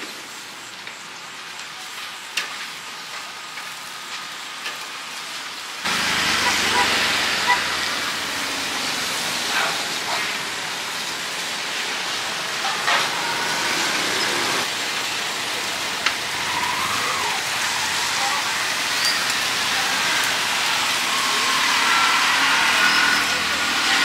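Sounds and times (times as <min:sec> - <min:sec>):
rain hissing: 0:00.0 - 0:24.0
traffic on a wet street: 0:00.0 - 0:24.0.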